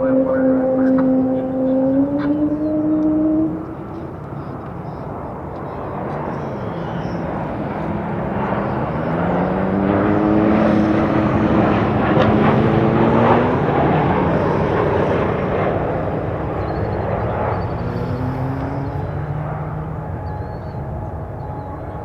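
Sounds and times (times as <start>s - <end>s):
jet engine rumble: 0.0s - 22.0s
jet engines moaning tones: 0.0s - 22.0s.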